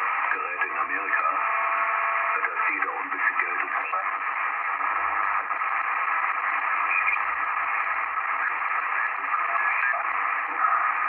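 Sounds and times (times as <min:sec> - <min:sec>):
shortwave radio hiss: 0:00.0 - 0:11.0.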